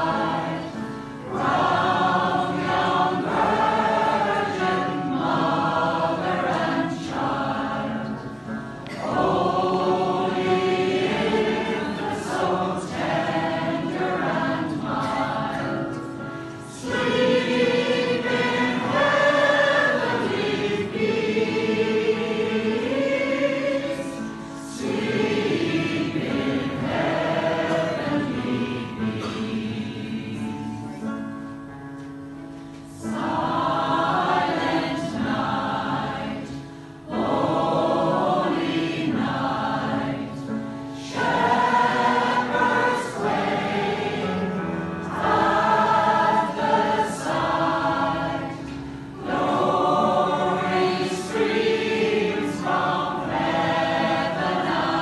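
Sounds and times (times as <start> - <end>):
mixed choir singing: 0.0 - 31.6, 32.6 - 55.0.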